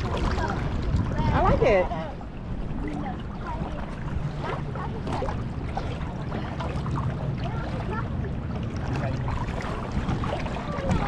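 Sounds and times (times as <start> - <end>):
water sloshing and gurgling: 0.0 - 11.0.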